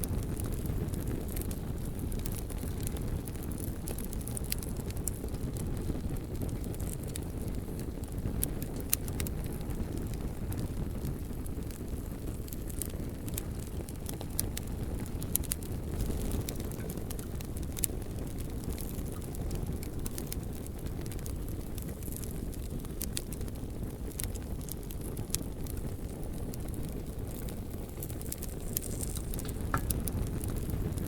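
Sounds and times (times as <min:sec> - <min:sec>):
bonfire crackling and popping: 0:00.0 - 0:31.0
low fire rumble: 0:00.0 - 0:31.0.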